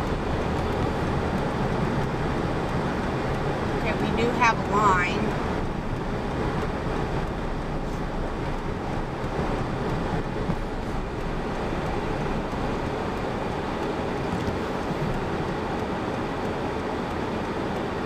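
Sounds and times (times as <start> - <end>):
road and engine noise in cab: 0.0 - 18.0.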